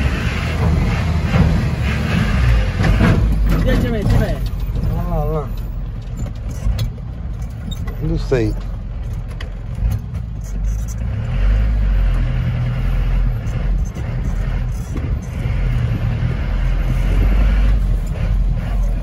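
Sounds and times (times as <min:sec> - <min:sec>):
diesel van engine pulling hard: 0:00.0 - 0:19.0.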